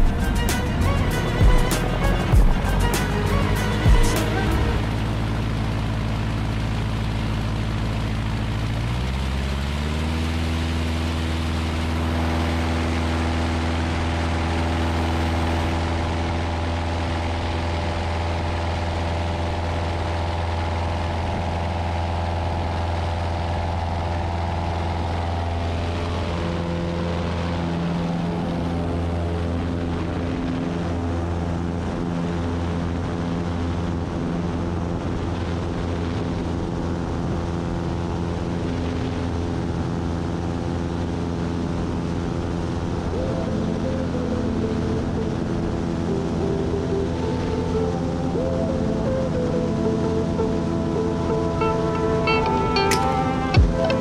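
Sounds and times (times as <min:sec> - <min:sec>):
airplane engine and propeller: 0:00.0 - 0:54.0
runway rumble: 0:00.0 - 0:54.0
wind: 0:00.0 - 0:54.0.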